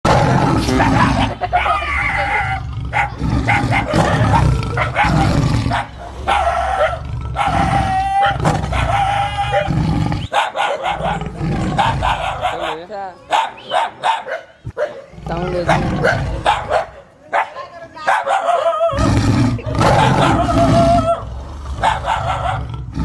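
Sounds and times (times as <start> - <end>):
dog barking and yelping: 0.8 - 9.7, 10.3 - 19.0, 19.6 - 22.7.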